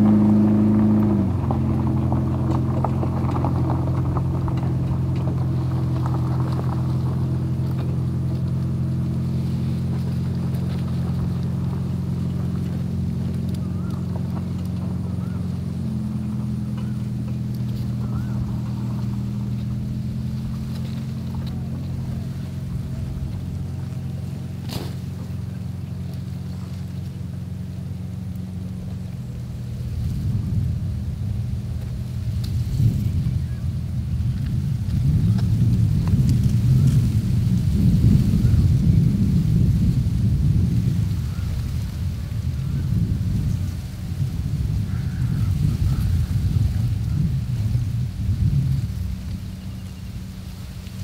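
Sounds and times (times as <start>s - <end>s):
engine humming: 0.0s - 51.0s.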